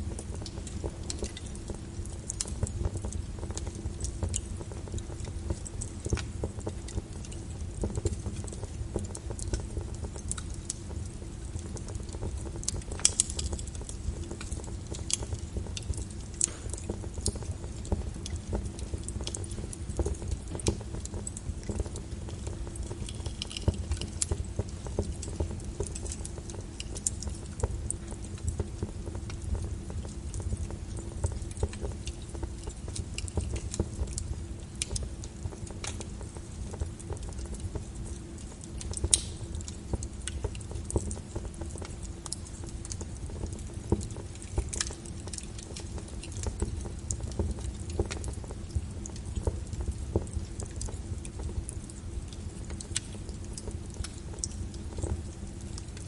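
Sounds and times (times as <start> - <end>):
low fire rumble: 0.0 - 56.0
wood fire crackling: 0.0 - 56.0.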